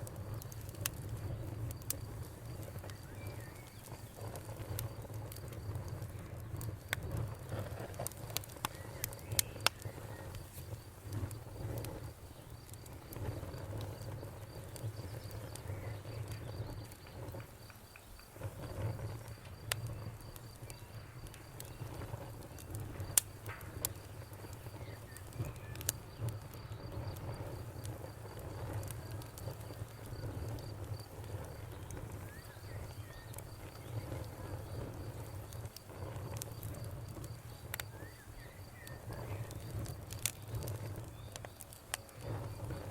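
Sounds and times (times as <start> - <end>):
sharp fire pops: 0.0 - 42.9
wood fire crackling: 0.0 - 42.9.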